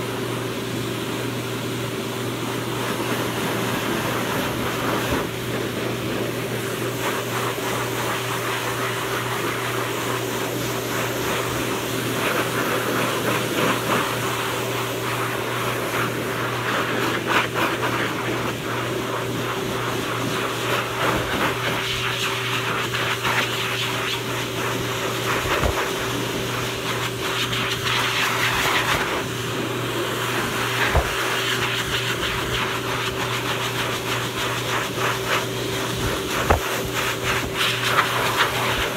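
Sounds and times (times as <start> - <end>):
dog dryer blowing air: 0.0 - 38.9.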